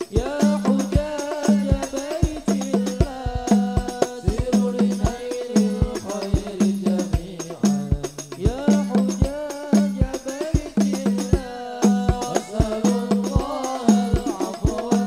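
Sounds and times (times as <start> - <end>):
frame drums beating: 0.0 - 15.0
jingling percussion: 0.0 - 15.0
men singing together: 0.0 - 15.0.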